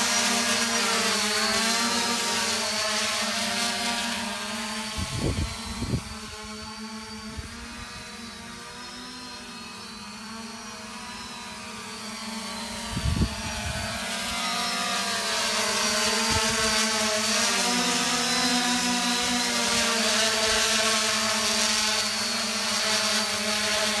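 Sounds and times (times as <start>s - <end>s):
quadcopter buzzing whine: 0.0s - 24.0s.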